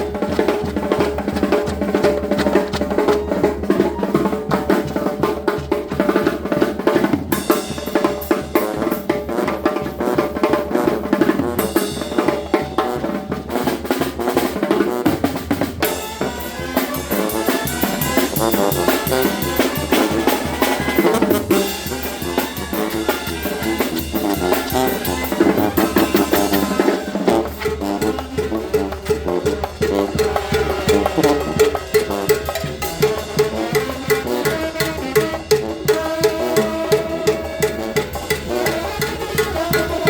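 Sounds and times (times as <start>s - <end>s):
band music with drums: 0.0s - 40.0s.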